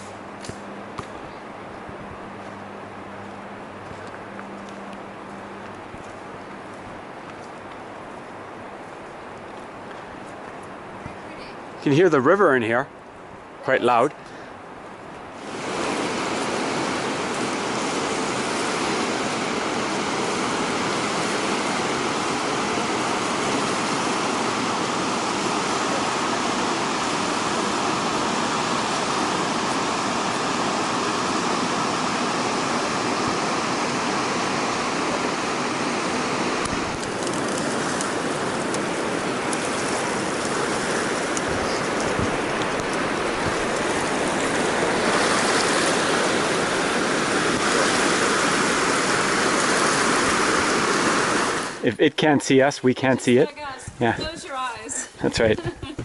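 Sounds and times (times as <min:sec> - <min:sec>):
river water rushing: 0:00.0 - 0:12.3, 0:12.9 - 0:51.9.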